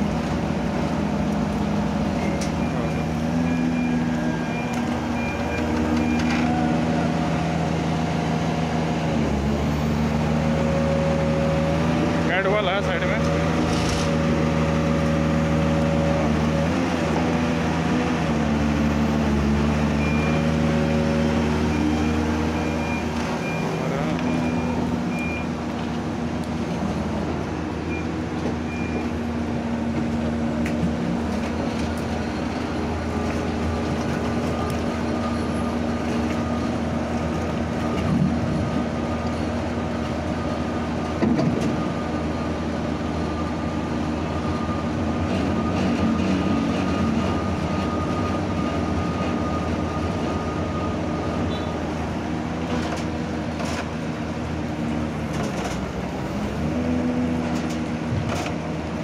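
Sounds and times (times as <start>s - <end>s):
heavy machinery diesel engines: 0.0s - 59.0s.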